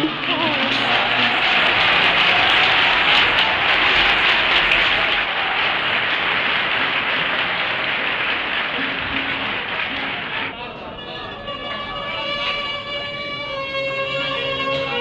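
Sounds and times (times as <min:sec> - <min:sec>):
audience applause: 0:00.0 - 0:12.8.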